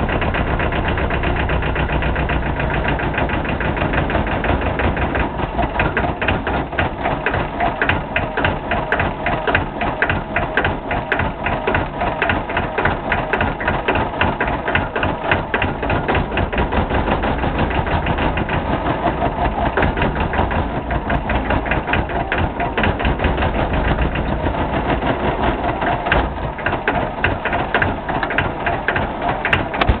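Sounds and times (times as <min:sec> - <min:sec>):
tractor engine knocking beat: 0:00.0 - 0:30.0.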